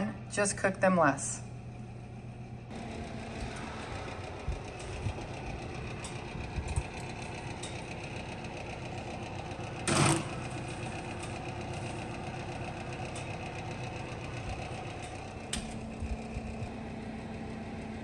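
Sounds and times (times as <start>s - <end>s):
oven fan hum: 0.0s - 18.0s.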